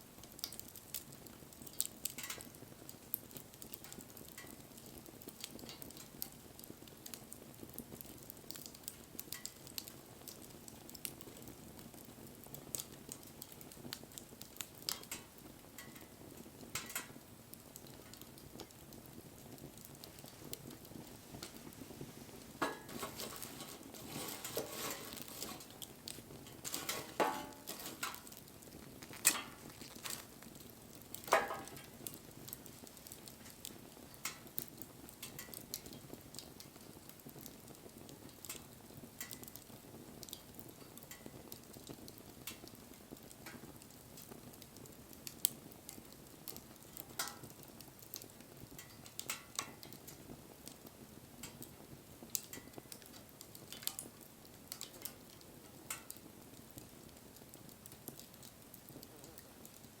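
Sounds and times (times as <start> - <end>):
wood bonfire crackling and popping: 0.0 - 60.0.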